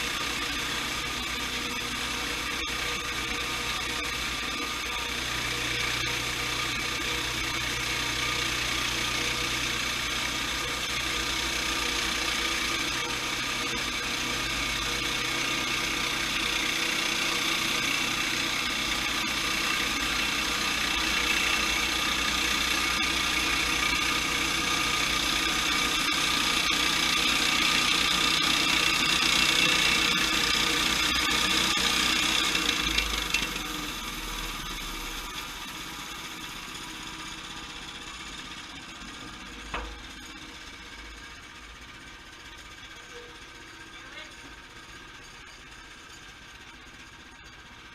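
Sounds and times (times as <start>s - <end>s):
sawmill engine running: 0.0s - 47.9s.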